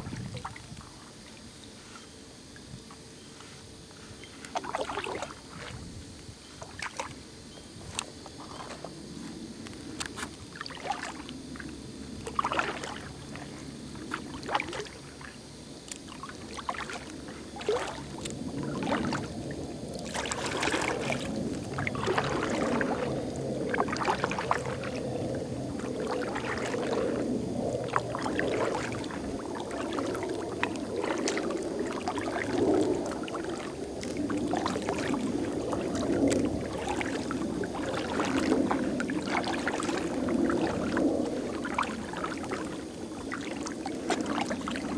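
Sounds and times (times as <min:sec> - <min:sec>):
water lapping and dripping: 0:00.0 - 0:03.0, 0:04.2 - 0:05.8, 0:06.5 - 0:07.3, 0:07.9 - 0:09.0, 0:09.6 - 0:44.9.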